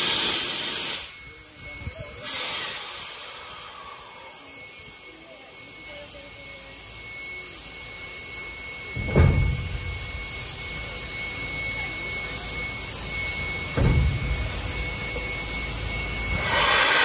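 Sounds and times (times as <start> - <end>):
high-pitched whine: 0.0 - 17.0
steam hissing: 0.0 - 17.0
steam locomotive exhaust chuffs: 0.0 - 17.0.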